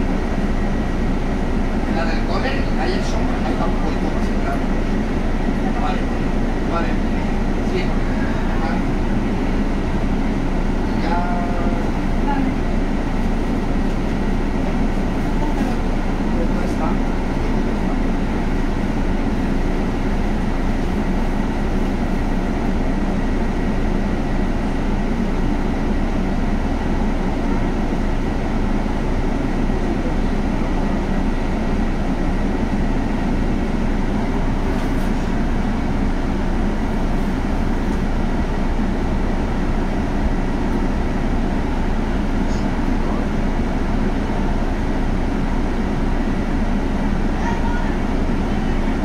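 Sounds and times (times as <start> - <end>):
bus engine and rolling drone: 0.0 - 49.0.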